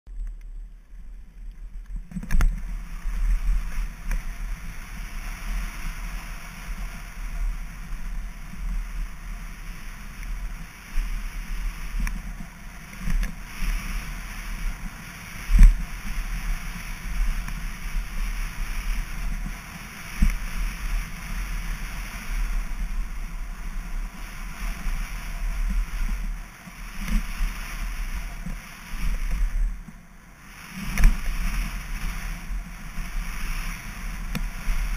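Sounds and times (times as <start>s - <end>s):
bike tyre rumble on gravel: 0.1s - 34.9s
wind rush: 1.0s - 34.9s.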